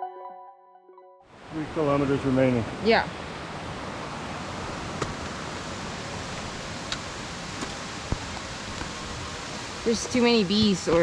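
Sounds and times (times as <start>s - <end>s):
mountain stream rushing: 1.3s - 11.0s.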